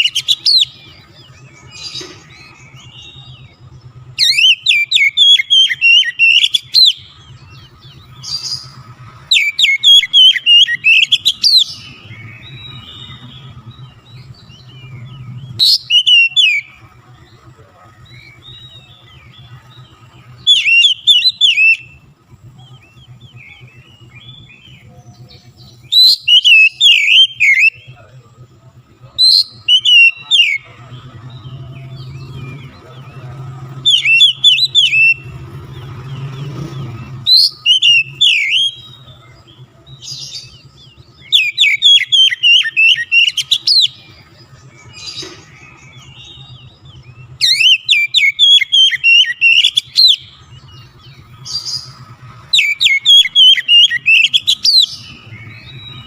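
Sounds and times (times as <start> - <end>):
songbird whistling and chattering: 0.0 - 56.0.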